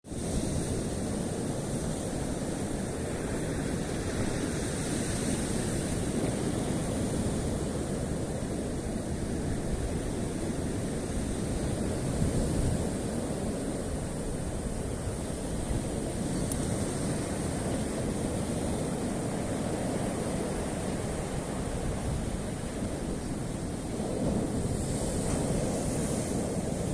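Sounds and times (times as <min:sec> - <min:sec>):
wind on microphone: 0:00.0 - 0:26.9
sea surf: 0:00.1 - 0:26.9.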